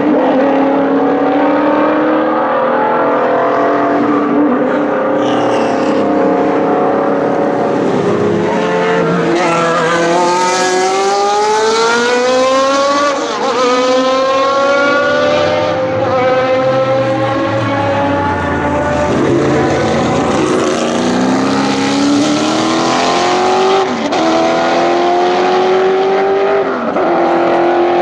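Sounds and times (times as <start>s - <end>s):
racing car engine accelerating: 0.0s - 28.0s.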